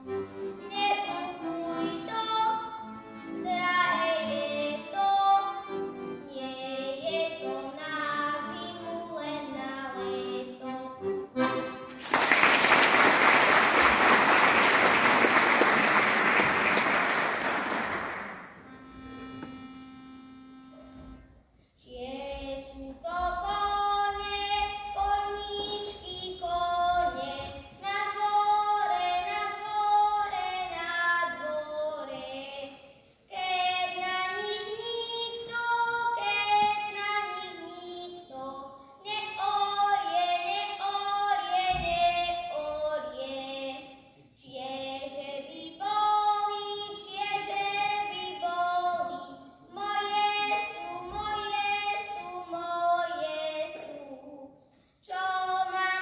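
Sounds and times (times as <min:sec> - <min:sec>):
child singing folk song: 0:00.0 - 0:14.6, 0:21.8 - 0:56.0.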